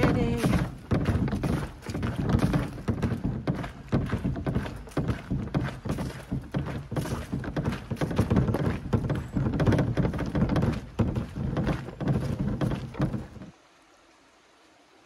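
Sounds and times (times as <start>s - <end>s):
footsteps crunching on dry leaves: 0.0s - 13.4s.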